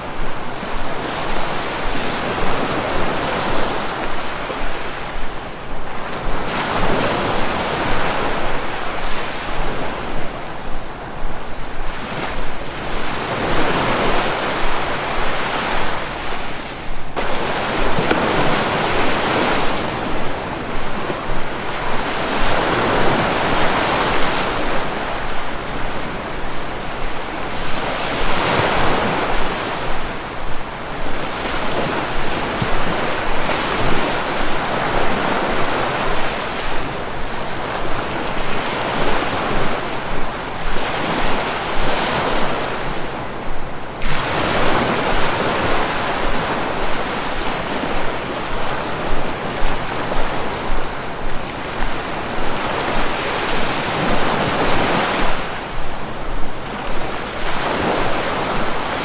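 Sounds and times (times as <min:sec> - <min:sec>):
sea waves breaking on shore: 0:00.0 - 0:59.0
wind: 0:00.0 - 0:59.0.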